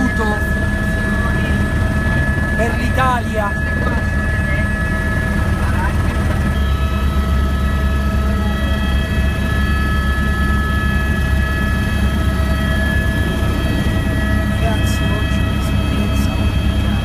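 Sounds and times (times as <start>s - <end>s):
helicopter rotor and engine drone: 0.0s - 17.0s
high whine: 0.0s - 17.0s.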